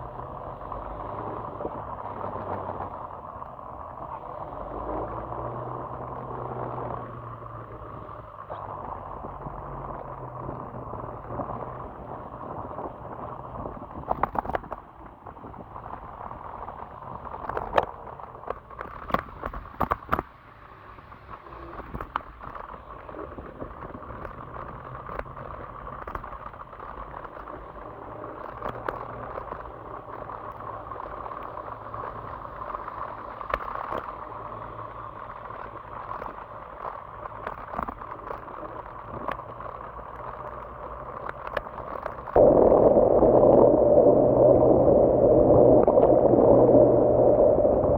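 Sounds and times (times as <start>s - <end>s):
electric scooter running: 0.0s - 42.5s.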